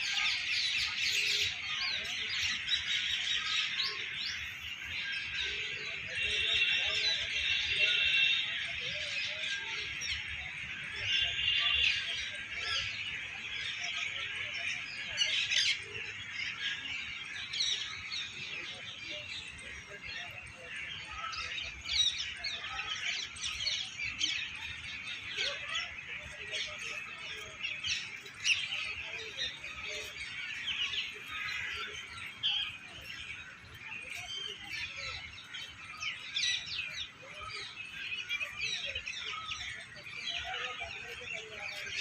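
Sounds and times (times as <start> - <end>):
many small birds chirping: 0.0 - 42.0.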